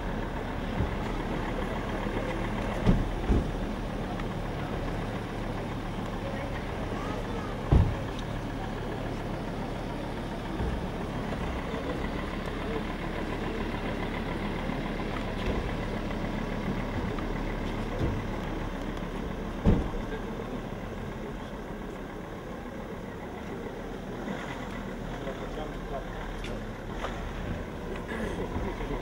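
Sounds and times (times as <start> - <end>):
crowd murmuring: 0.0 - 29.0
vehicle engine idling: 0.0 - 29.0.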